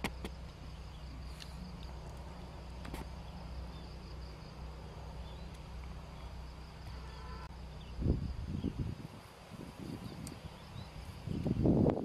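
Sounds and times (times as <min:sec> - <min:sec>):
low background rumble: 0:00.0 - 0:11.8
insects droning: 0:00.0 - 0:12.0.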